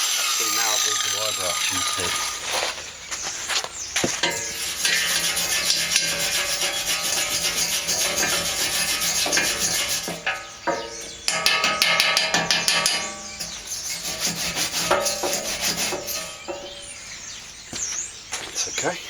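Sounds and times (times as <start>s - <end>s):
wire brush scraping steel: 0.0s - 17.3s.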